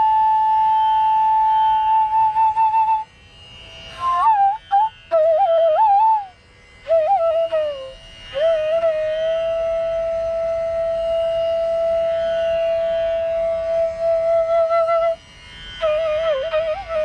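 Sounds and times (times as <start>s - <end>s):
bamboo flute playing: 0.0s - 3.2s, 3.9s - 17.0s.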